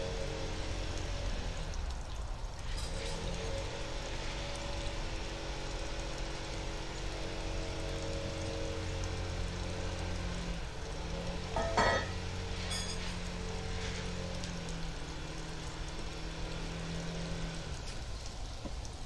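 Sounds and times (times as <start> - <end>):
small engine running: 0.0 - 1.8, 2.6 - 18.2.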